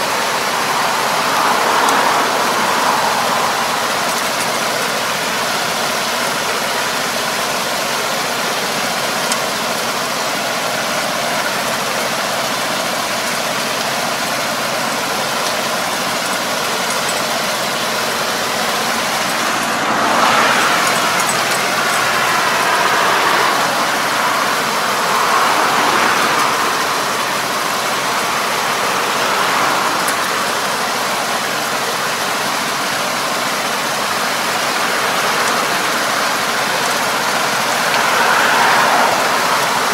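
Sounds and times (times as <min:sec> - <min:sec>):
harrow churning mud and water: 0:00.0 - 0:39.9
tractor engine running: 0:00.0 - 0:39.9.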